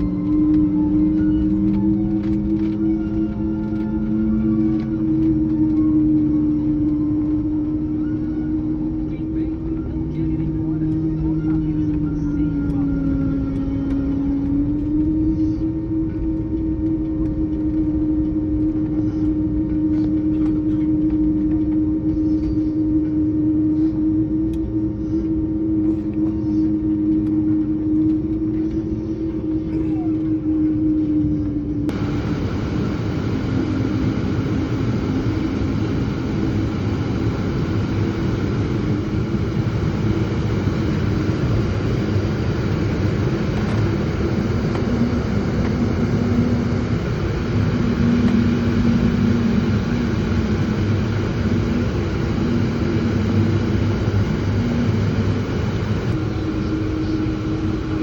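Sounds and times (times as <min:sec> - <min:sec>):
jet engines rumbling: 0:00.0 - 0:58.0
low hum: 0:00.0 - 0:58.0.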